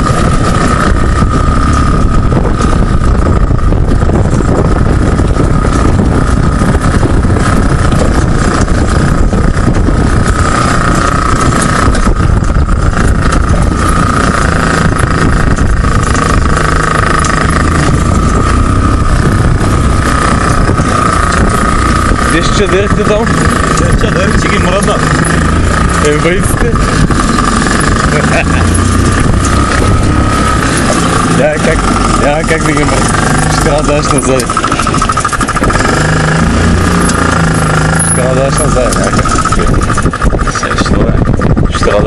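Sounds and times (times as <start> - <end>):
dune buggy engine droning: 0.0 - 42.0.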